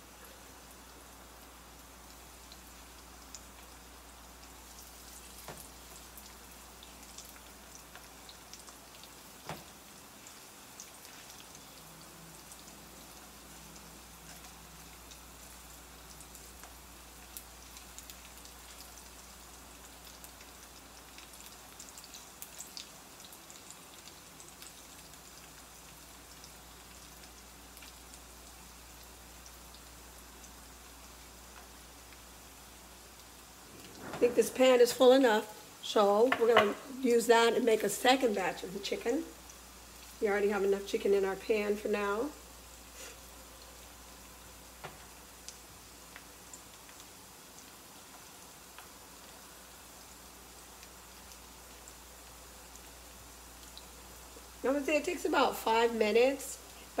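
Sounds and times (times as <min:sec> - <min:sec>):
chicken sizzling in oil: 0:00.0 - 0:57.0.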